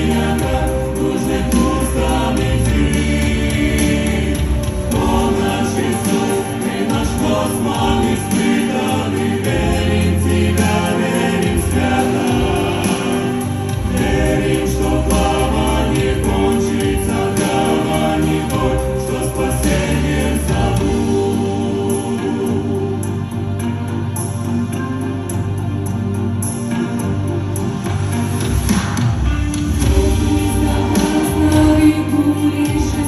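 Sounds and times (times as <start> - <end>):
choir singing: 0.0 - 33.0
instrumental accompaniment: 0.0 - 33.0.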